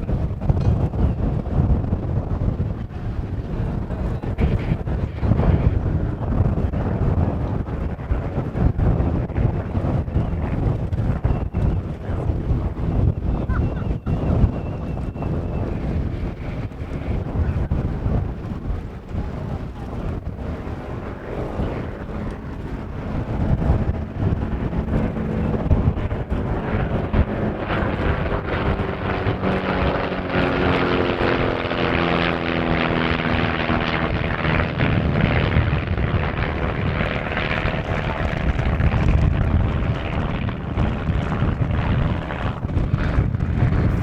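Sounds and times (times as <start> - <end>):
propeller plane engine drone: 0.0 - 44.0
wind rumble on microphone: 0.0 - 44.0.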